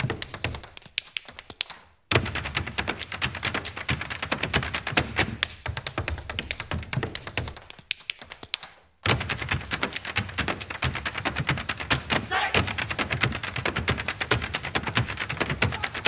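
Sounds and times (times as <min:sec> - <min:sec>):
hard shoes tapping on stage: 0:00.0 - 0:16.0.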